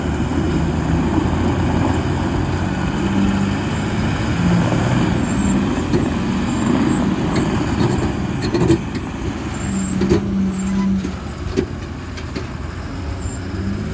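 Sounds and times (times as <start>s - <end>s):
diesel machinery running: 0.0s - 13.9s.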